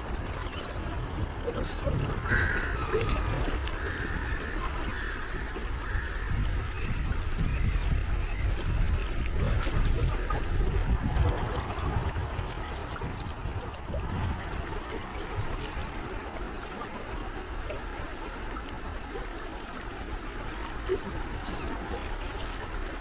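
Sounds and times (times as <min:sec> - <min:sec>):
sea waves lapping at shore: 0:00.0 - 0:23.0.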